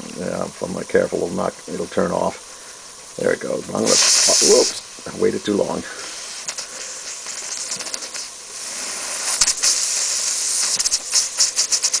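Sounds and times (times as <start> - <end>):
steam hissing: 0.0 - 12.0
steam engine exhaust beats: 1.7 - 12.0.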